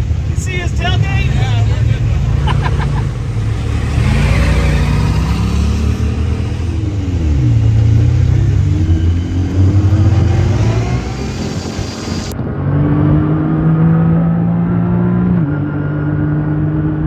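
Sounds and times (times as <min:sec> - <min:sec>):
off-road vehicle engine under load: 0:00.0 - 0:17.0.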